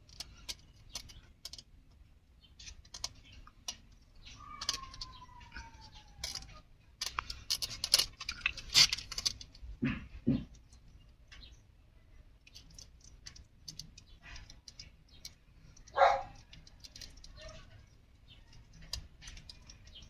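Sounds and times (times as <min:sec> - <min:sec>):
kittens clambering and scratching: 0:00.0 - 0:20.0.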